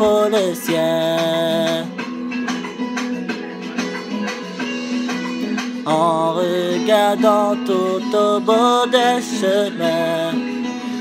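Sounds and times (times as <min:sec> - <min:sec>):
plucked string ballad music: 0:00.0 - 0:11.0.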